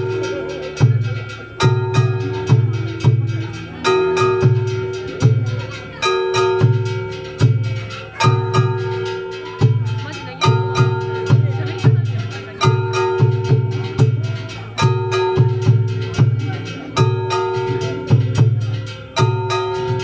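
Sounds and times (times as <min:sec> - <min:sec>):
deep drum beats: 0:00.0 - 0:20.0
ringing metallic bell-like strikes: 0:00.0 - 0:20.0.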